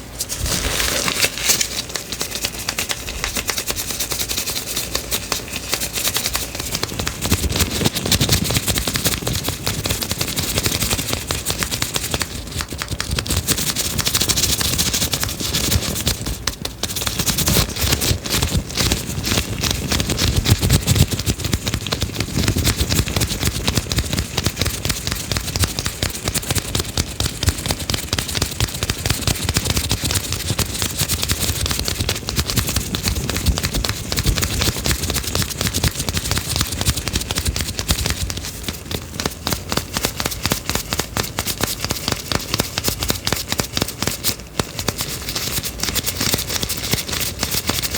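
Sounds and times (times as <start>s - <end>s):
fast dense clicking and crackling: 0.4s - 47.9s.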